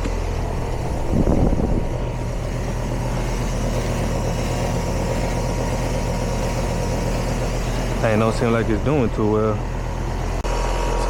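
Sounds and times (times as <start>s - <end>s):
heat pump unit humming: 0.0s - 11.0s.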